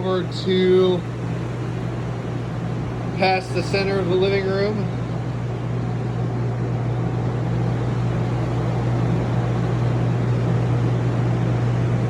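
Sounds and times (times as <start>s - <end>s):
large fans humming: 0.0s - 12.0s.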